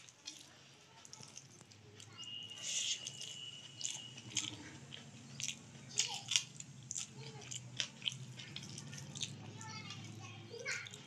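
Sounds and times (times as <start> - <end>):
fingers mixing food on plate: 0.0 - 11.0
wet chewing and crunching: 0.0 - 11.0.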